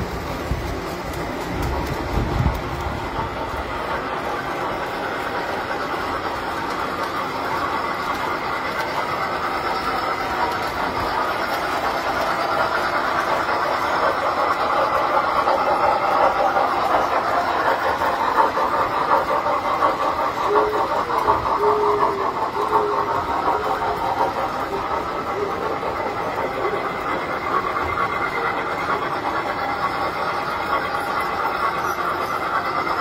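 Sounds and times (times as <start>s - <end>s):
model trains rumbling on metal track: 0.0s - 33.0s.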